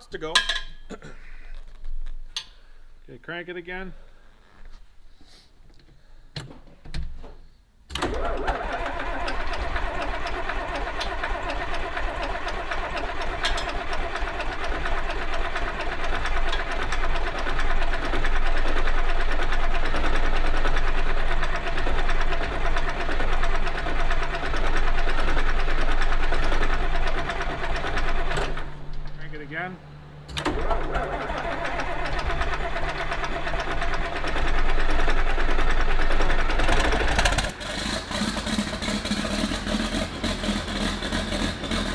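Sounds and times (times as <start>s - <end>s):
diesel engine cranking and clattering: 7.9s - 41.9s.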